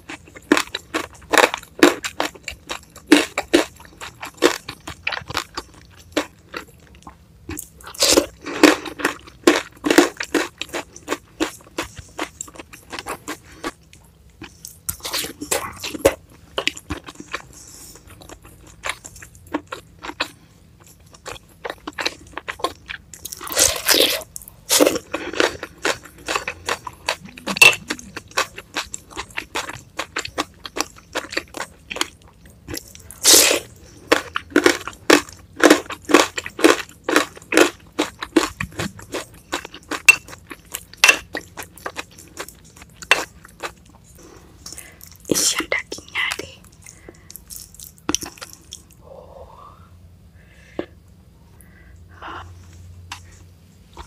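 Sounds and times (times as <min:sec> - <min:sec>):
crisp chewing crunches: 0:00.0 - 0:49.0.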